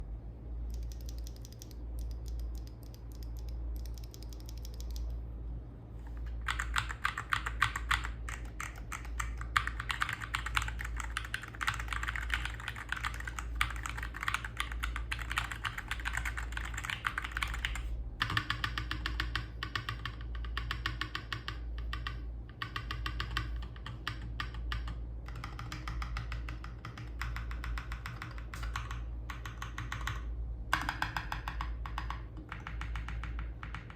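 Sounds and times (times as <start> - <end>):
keyboard typing: 0.7 - 5.1, 6.1 - 33.9.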